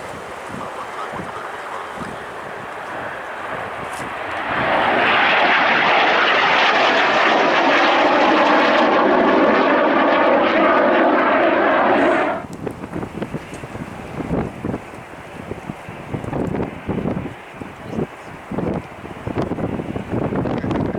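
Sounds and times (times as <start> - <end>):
airliner jet engines: 0.0 - 20.9.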